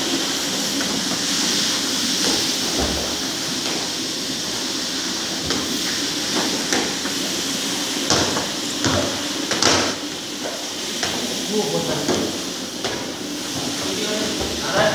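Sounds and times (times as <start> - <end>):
push broom scrubbing wet tiles: 0.0 - 14.9.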